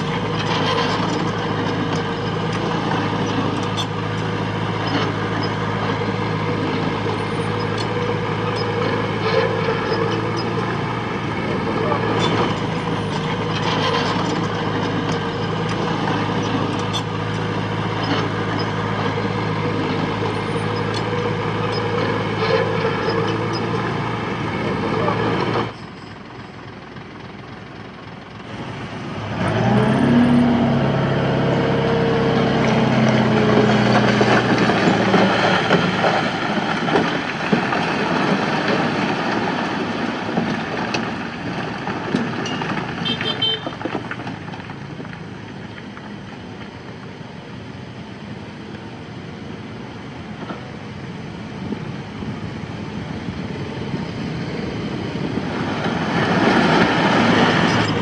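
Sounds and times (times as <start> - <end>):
diesel engine revving: 0.0 - 58.0
heavy diesel engine running: 0.0 - 58.0.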